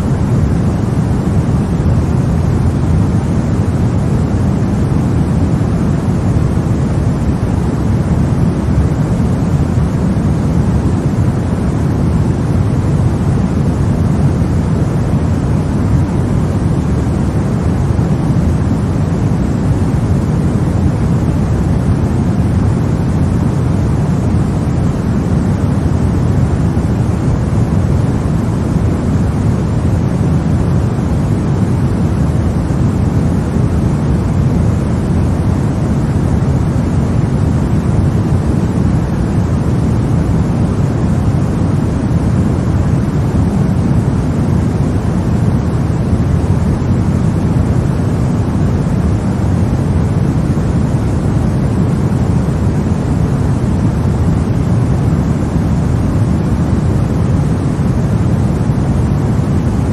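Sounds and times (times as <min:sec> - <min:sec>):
deep white noise hiss: 0:00.0 - 0:59.9.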